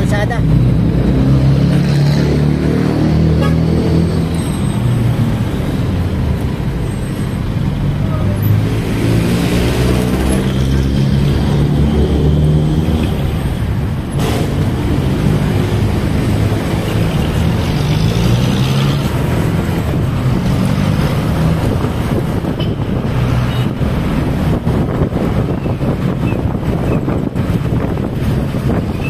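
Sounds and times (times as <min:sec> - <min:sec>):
vehicle engines in traffic: 0:00.0 - 0:29.0.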